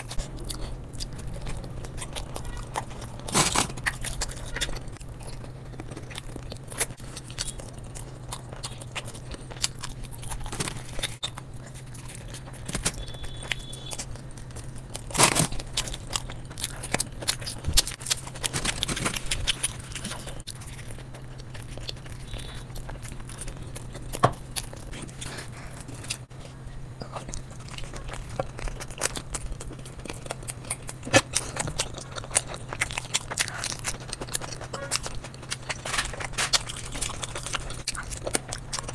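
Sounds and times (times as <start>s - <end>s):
chewing with wet mouth smacks: 0.0s - 38.9s
steady low hum: 0.0s - 38.9s.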